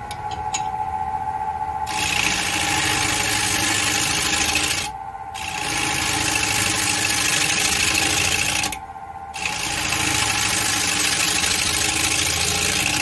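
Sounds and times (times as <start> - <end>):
wood lathe motor hum: 1.8 - 13.0.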